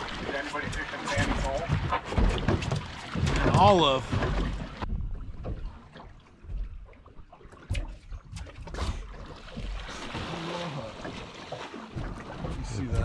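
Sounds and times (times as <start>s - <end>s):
water around boat: 0.0s - 13.0s
wind: 0.0s - 13.0s.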